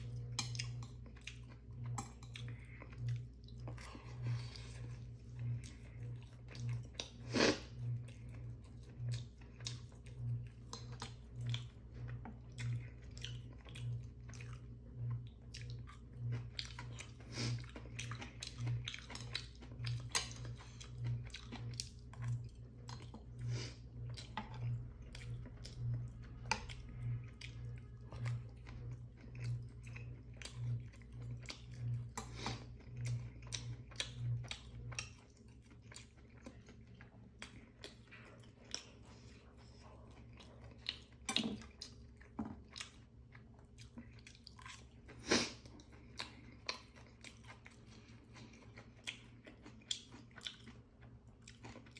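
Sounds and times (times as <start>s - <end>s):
low pulsing hum: 0.0s - 51.9s
man chewing food: 0.0s - 51.9s.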